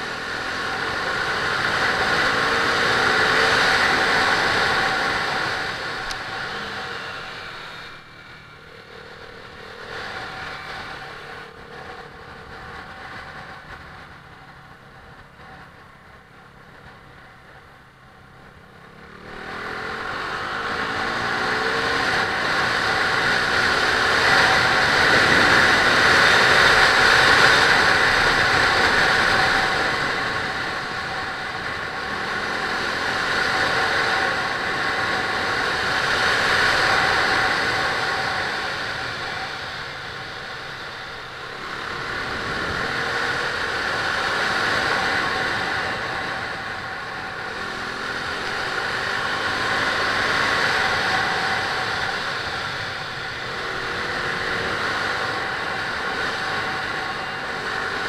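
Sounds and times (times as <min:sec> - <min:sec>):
motorcycle engine: 0:00.0 - 0:58.0
wind and road rush: 0:00.0 - 0:58.0.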